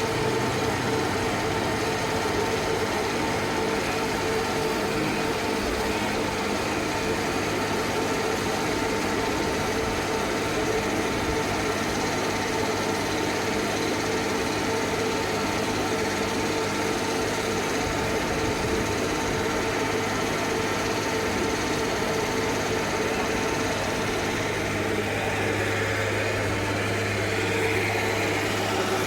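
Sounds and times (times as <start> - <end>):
hydraulic machine humming and whining: 0.0 - 29.0.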